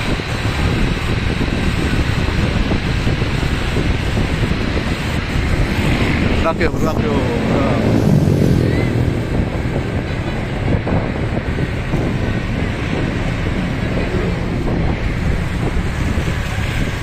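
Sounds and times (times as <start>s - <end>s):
low vehicle rumble: 0.0s - 17.0s
wind buffeting microphone: 0.0s - 17.0s.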